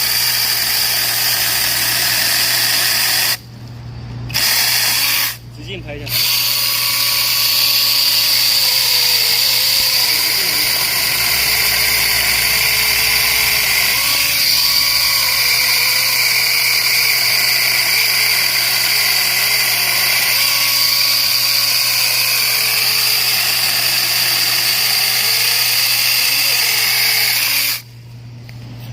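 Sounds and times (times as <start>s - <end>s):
electric pruning saw motor whine: 0.0s - 3.4s, 4.3s - 28.0s.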